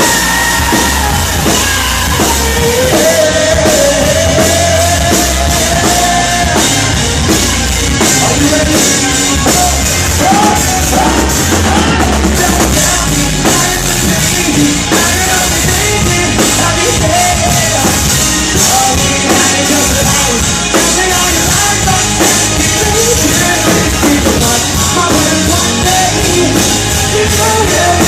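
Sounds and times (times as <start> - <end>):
person singing or shouting: 0.0 - 7.0, 8.2 - 28.0
distorted guitars: 0.0 - 28.0
drum kit: 0.0 - 28.0.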